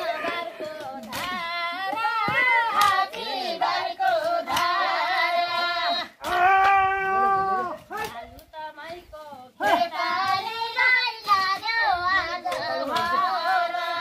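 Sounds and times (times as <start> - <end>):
people singing field song: 0.0 - 14.0.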